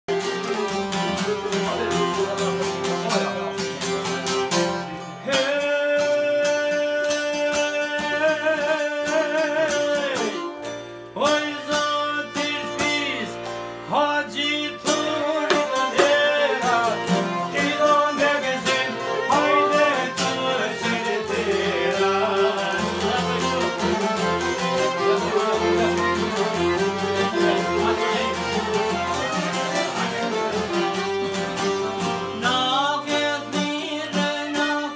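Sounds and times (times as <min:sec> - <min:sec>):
accordion: 0:00.0 - 0:34.9
plucked lutes: 0:00.1 - 0:34.9.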